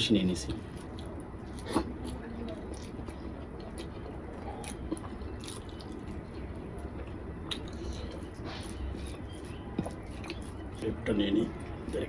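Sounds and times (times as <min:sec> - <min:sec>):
low steady hum: 0:00.0 - 0:12.0
man chewing food: 0:00.1 - 0:12.0.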